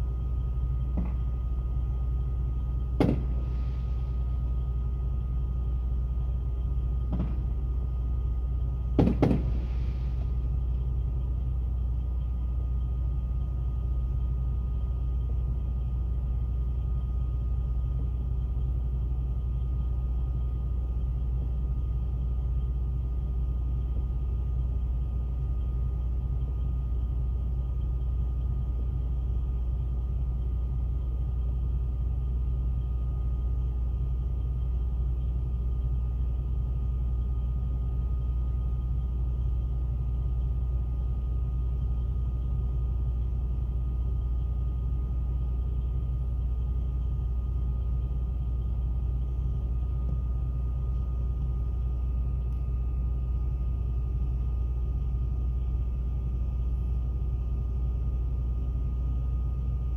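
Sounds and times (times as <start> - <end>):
faint high whine: 0.0 - 59.9
truck engine idling: 0.0 - 59.9.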